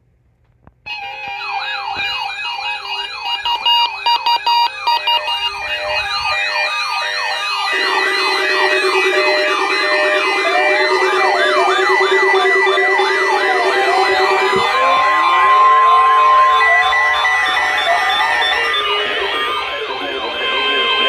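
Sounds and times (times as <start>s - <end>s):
alarm wails and tones: 0.9s - 21.0s
low buzzing alarm tone: 2.8s - 21.0s.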